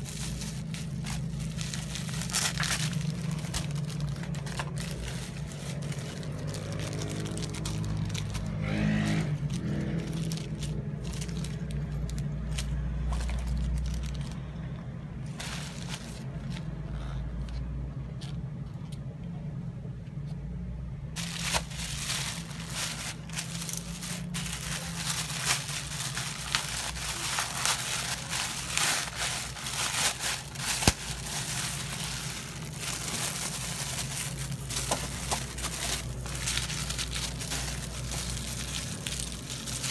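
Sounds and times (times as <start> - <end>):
plastic bags crinkling: 0.0 - 17.1, 21.2 - 39.9.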